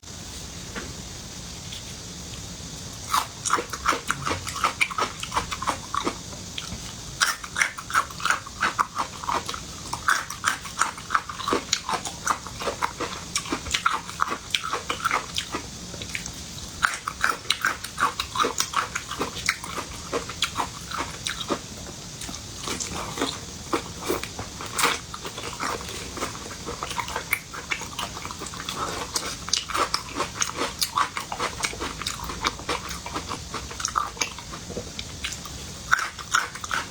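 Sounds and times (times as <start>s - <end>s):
person chewing and smacking: 3.1s - 36.9s.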